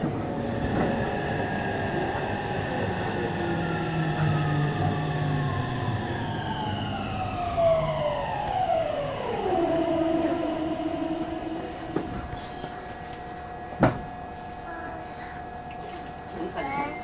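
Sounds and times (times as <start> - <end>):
electric train motor whine: 0.0 - 14.4
train running gear rumble: 0.0 - 17.0.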